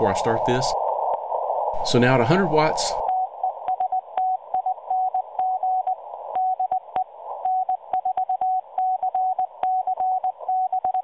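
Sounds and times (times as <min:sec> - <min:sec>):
receiver hiss: 0:00.0 - 0:11.0.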